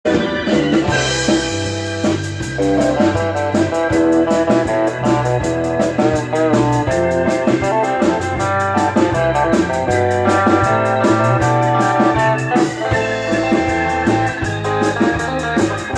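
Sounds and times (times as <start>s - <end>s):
rock band playing: 0.0s - 15.9s.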